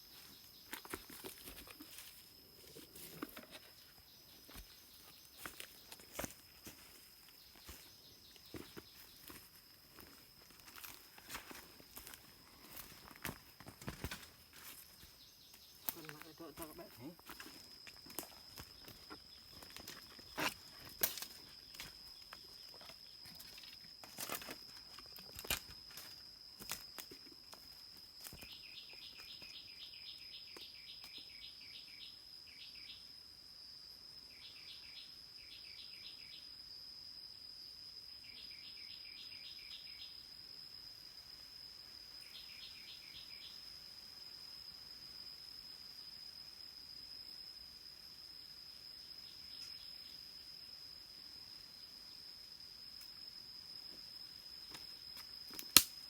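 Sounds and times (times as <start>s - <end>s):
insect chirps: 0.0s - 56.0s
insects high drone: 0.0s - 56.0s.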